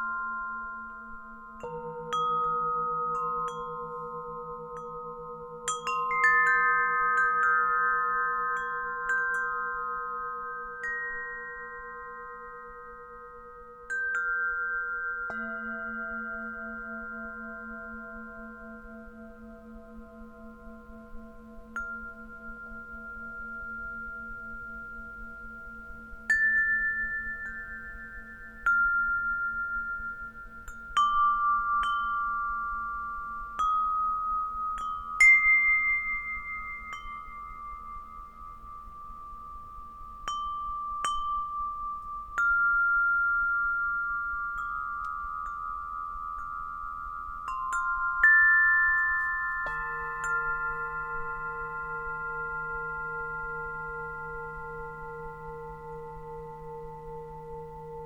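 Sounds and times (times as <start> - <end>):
singing bowl ringing: 0.0 - 58.0
wind chime ringing: 0.0 - 58.0.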